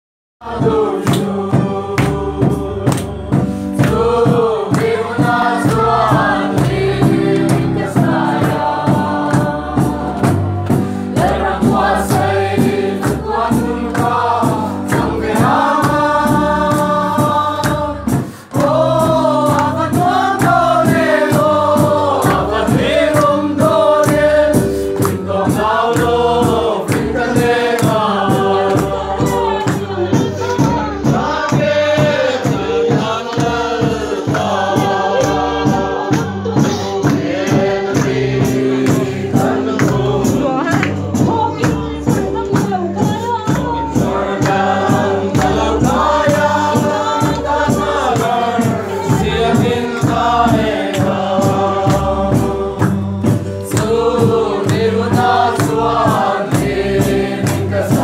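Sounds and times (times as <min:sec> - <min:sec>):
congregation singing a hymn: 0:00.4 - 0:58.0
percussive beat: 0:00.4 - 0:58.0.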